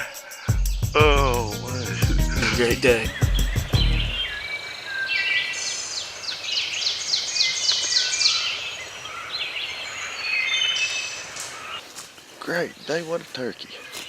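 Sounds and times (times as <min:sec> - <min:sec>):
birds chipping: 0:00.0 - 0:14.0
songbirds singing: 0:00.0 - 0:14.0.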